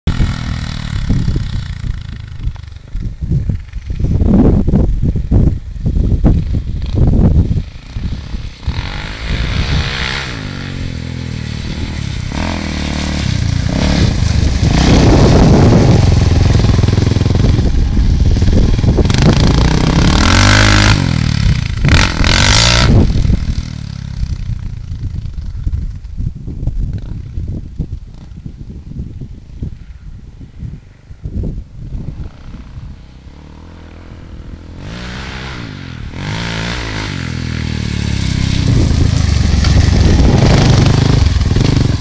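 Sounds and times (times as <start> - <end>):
quad bike engine revving: 0.1 - 5.3, 6.2 - 25.3, 32.1 - 42.0.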